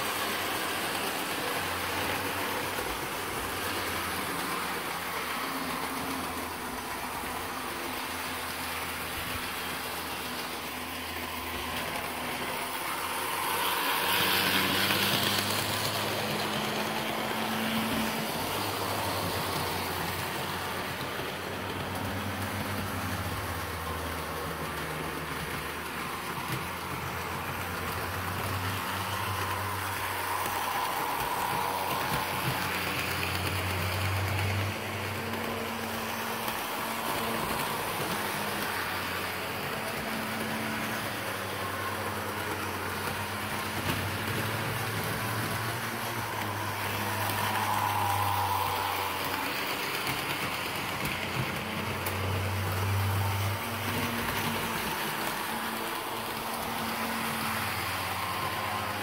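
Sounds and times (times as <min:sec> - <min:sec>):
wheels rattling on rail: 0:00.0 - 0:59.0.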